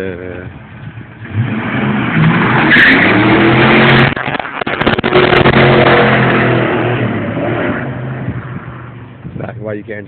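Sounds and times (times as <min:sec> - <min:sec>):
car engine at full throttle: 0:00.0 - 0:09.9.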